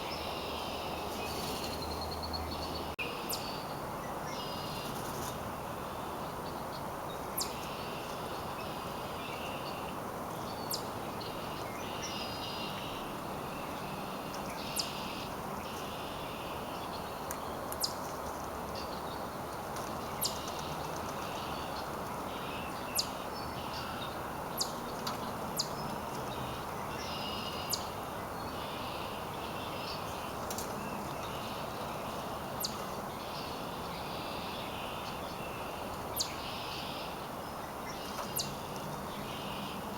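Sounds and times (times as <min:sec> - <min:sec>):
outdoor background hiss: 0:00.0 - 0:39.9
small birds chirping: 0:06.2 - 0:39.9.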